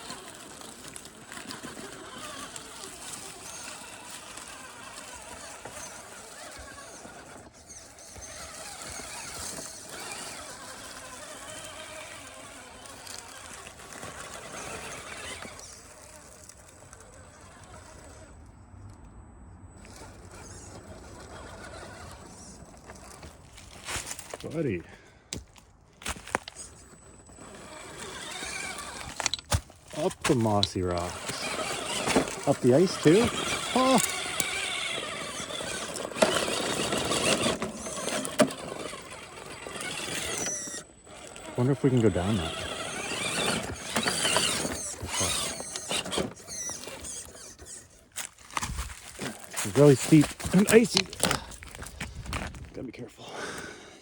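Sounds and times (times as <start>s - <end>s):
electric motor whining: 0.0s - 19.0s, 19.7s - 24.9s, 26.0s - 52.7s.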